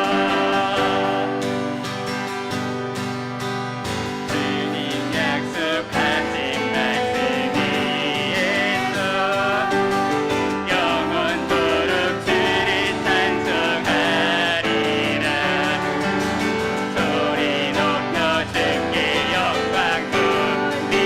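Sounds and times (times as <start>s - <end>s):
group singing worship song: 0.0s - 2.1s, 4.3s - 21.0s
piano accompaniment: 0.0s - 21.0s.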